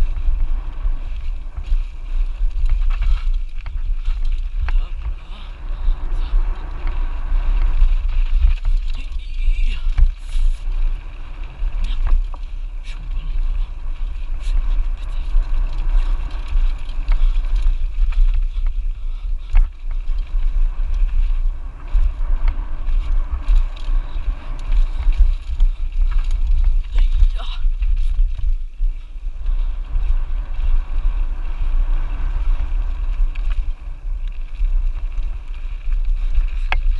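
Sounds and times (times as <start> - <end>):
bike rattles and knocks: 0.0 - 36.9
wind buffeting microphone: 0.0 - 36.9.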